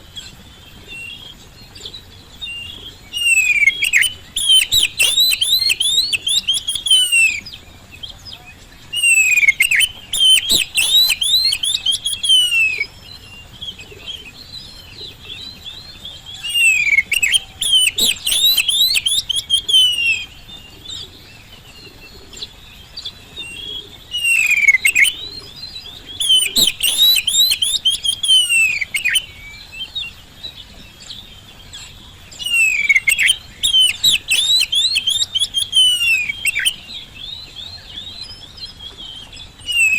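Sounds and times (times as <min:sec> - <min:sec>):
bird twittering softly: 0:00.0 - 0:39.9
bird singing whistles and chatter: 0:00.9 - 0:30.2, 0:31.0 - 0:39.9.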